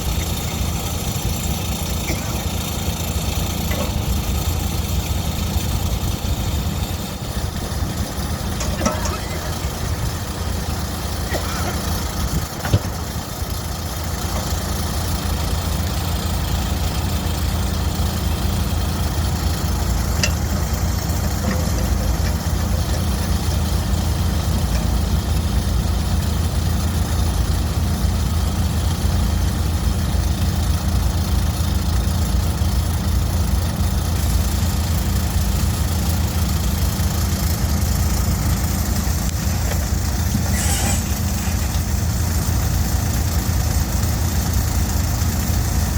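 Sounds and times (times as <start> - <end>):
loader engine idling: 0.0 - 45.9.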